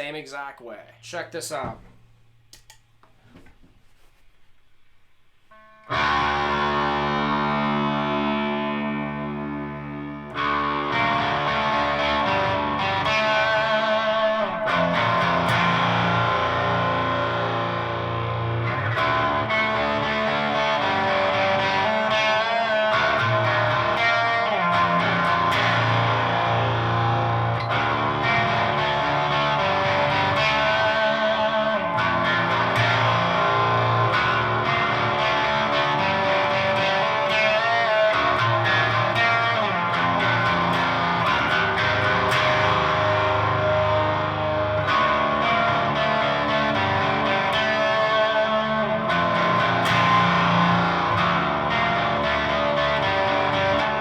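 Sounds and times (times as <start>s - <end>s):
distorted electric guitar riff: 5.5s - 54.0s.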